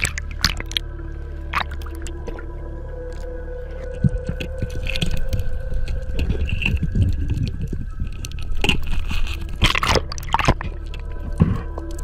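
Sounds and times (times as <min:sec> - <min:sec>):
hand scraping rock underwater: 0:00.0 - 0:12.0
low underwater rumble: 0:00.0 - 0:12.0.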